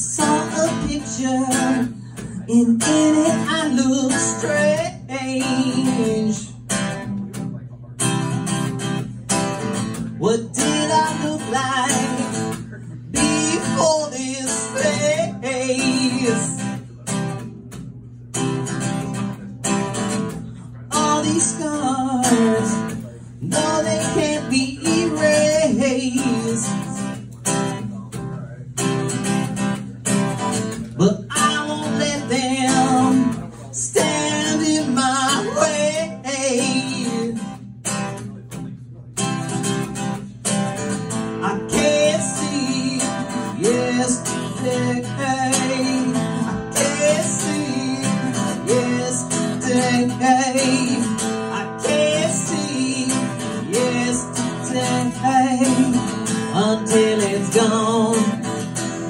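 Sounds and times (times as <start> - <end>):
man singing: 0.0 - 8.0, 9.2 - 17.2, 18.7 - 27.4, 30.5 - 37.6, 41.0 - 59.0
acoustic guitar strumming: 0.0 - 59.0.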